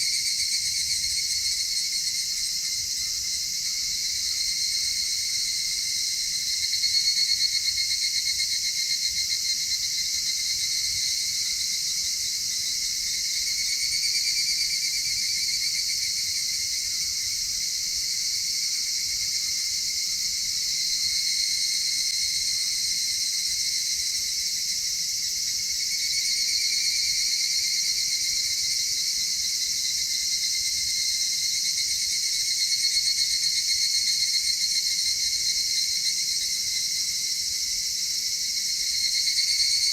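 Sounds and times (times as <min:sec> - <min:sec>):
trilling insects chorus: 0:00.0 - 0:39.9.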